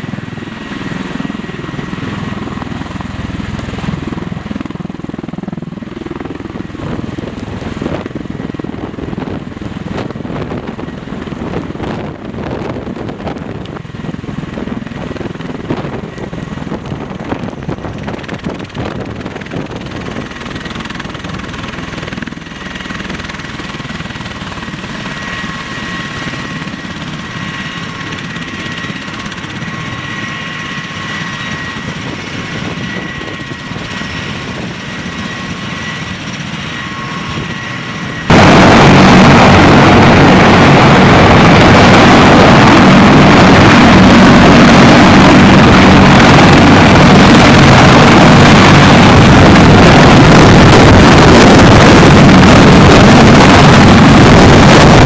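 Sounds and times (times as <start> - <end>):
aircraft rotor rush: 0.0 - 55.0
high turbine whine: 0.0 - 55.0.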